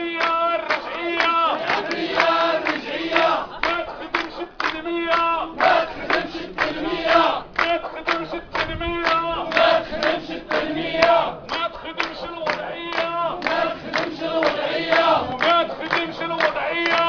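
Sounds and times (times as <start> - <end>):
men chanting in unison: 0.0 - 17.0
rhythmic hand-clapping: 0.0 - 17.0.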